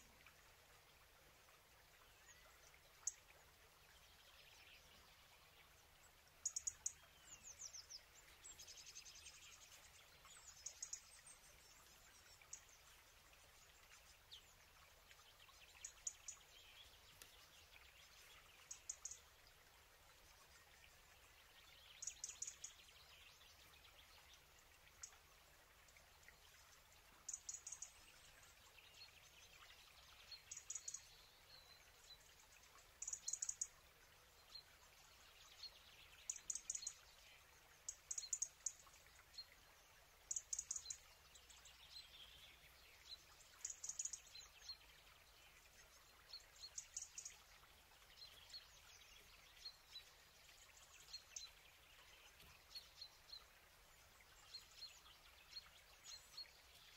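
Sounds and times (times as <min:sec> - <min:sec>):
faint bird chirping: 0:00.0 - 0:56.9.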